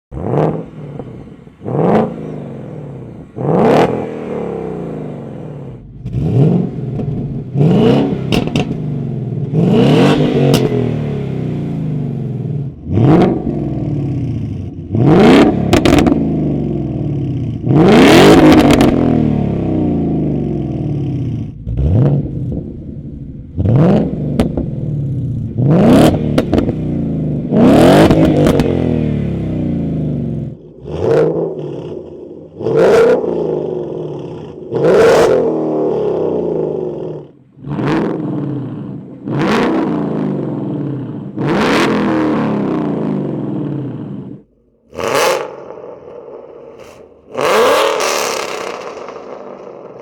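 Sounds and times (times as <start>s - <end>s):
car engines revving: 0.1s - 50.0s
exhaust cracks: 5.4s - 50.0s.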